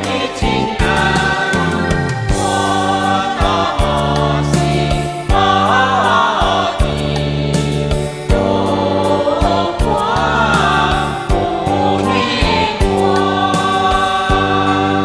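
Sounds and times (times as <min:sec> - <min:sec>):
song with singing voices: 0:00.0 - 0:15.0.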